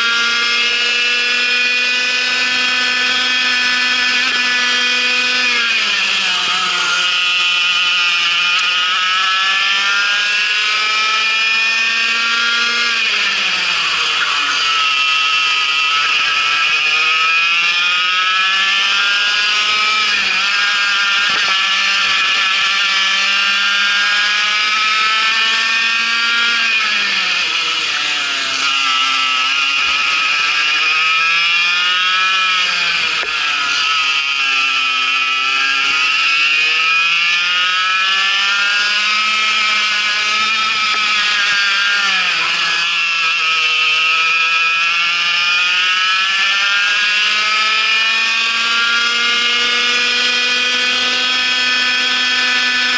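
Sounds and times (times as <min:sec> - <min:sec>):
kart engine running hard: 0:00.0 - 0:52.9.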